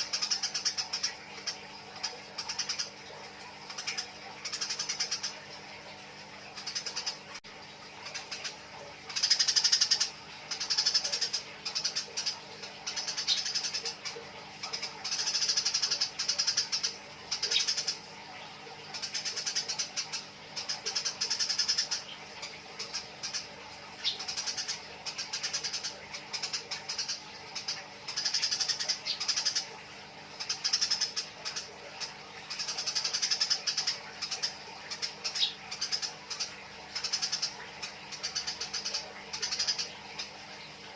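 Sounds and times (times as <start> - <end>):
sparrows harsh chattering calls: 0.0 - 3.0, 3.6 - 5.5, 8.0 - 40.7.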